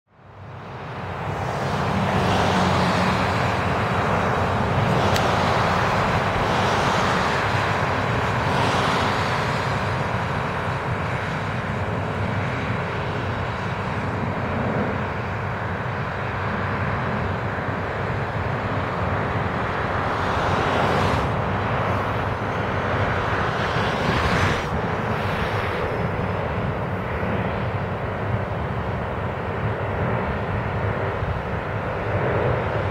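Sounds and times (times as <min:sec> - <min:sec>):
jet engines rushing: 0:00.2 - 0:32.9.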